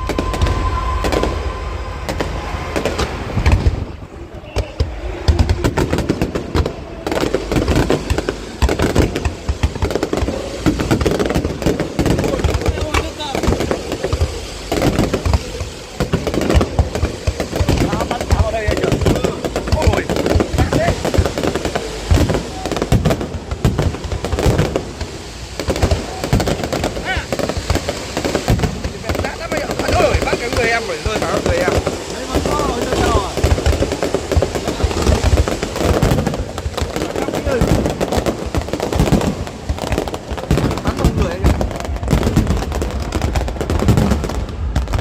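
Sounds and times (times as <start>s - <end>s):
deep fireworks booms: 0.0s - 45.0s
fireworks bangs and crackles: 0.0s - 45.0s.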